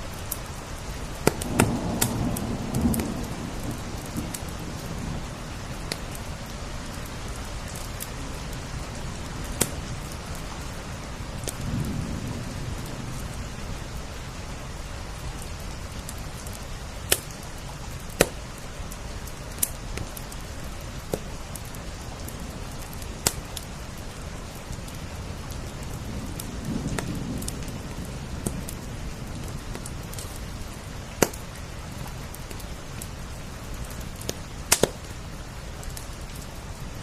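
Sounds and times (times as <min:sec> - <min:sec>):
fire popping: 0:00.0 - 0:12.0, 0:15.4 - 0:25.0, 0:25.8 - 0:37.0
rain on window glass: 0:00.0 - 0:37.0
wood fire crackling: 0:00.0 - 0:37.0.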